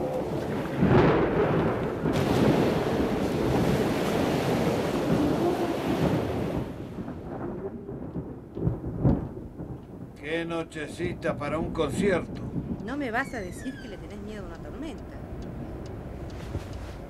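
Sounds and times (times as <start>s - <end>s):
rolling thunder: 0.0s - 14.6s.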